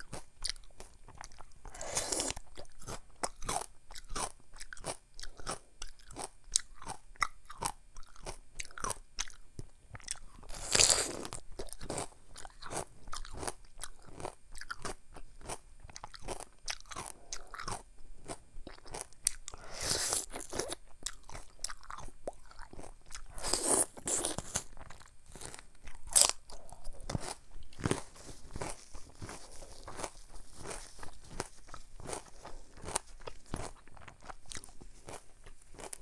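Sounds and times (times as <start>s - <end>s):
wet chewing clicks: 0.0s - 19.6s, 20.2s - 36.0s
crunching bites of melon: 1.3s - 9.4s, 10.0s - 36.0s.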